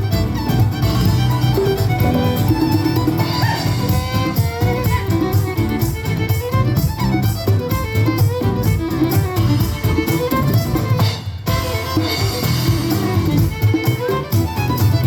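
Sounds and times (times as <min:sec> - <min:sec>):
folk band playing fiddle tune: 0:00.0 - 0:15.0
steady percussion beat: 0:00.0 - 0:15.0.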